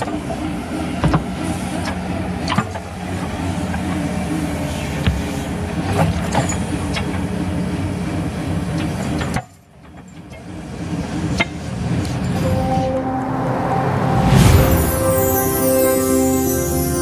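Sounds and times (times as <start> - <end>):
construction machine engine running: 0.0 - 16.7.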